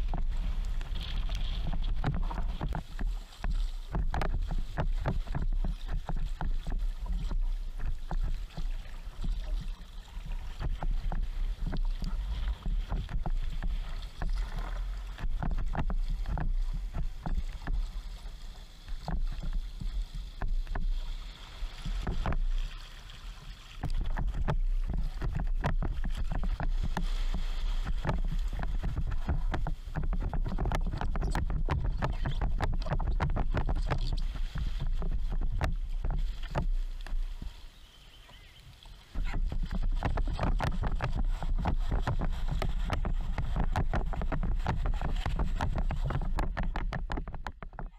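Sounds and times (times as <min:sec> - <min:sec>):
wind rumbling on microphone: 0:00.0 - 0:22.8, 0:23.5 - 0:47.9
water splashing around kayak: 0:00.0 - 0:47.9.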